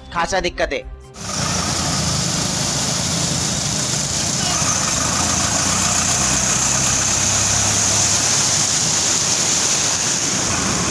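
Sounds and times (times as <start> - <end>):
high hiss: 1.2 - 10.9
vehicle engine idling: 1.2 - 10.9.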